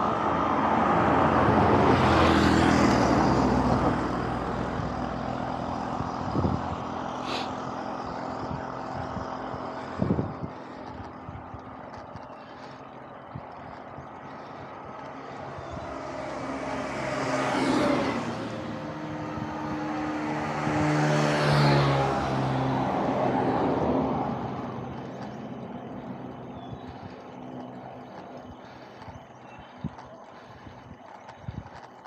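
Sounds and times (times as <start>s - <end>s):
motor vehicles passing: 0.0s - 32.0s
wind and road noise: 0.0s - 32.0s.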